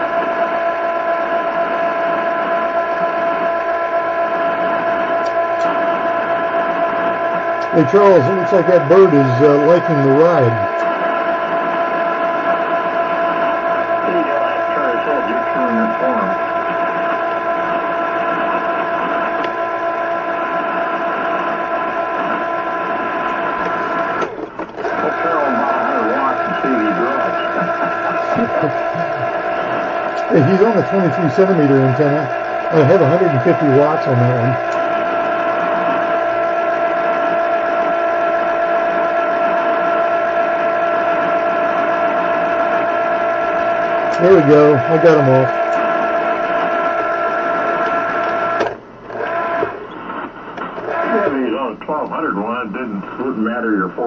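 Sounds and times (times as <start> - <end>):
radio hiss and hum: 0.0 - 54.0
steady whining tones: 0.0 - 54.0.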